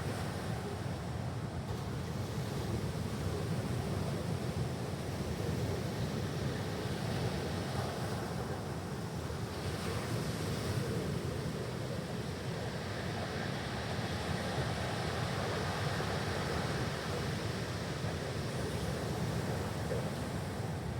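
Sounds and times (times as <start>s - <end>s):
waves washing onto stony beach: 0.0s - 20.9s.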